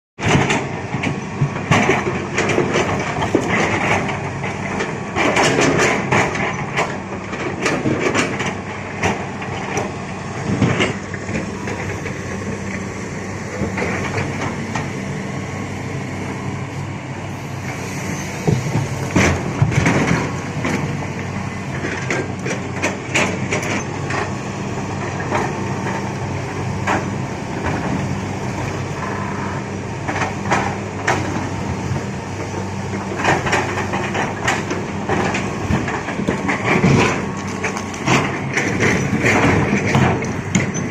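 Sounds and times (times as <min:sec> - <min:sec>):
excavator diesel engine running: 0:00.2 - 0:40.9.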